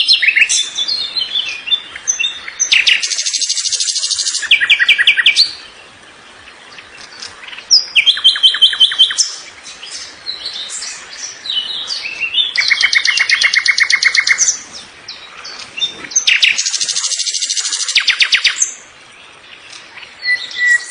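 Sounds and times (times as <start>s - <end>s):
songbird singing: 0.0s - 20.9s.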